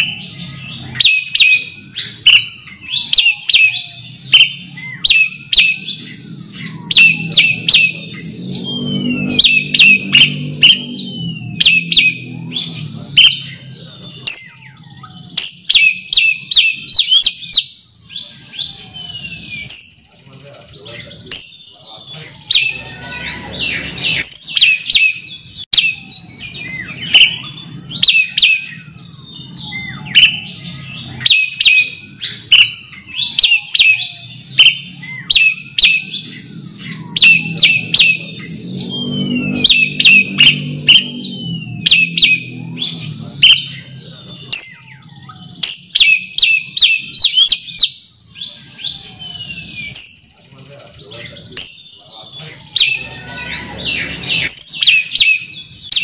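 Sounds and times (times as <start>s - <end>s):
bird singing whistled notes: 0.0s - 56.0s.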